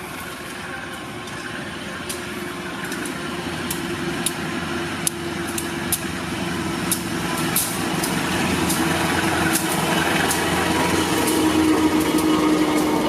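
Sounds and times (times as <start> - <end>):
diesel train engine hum: 0.0 - 13.0.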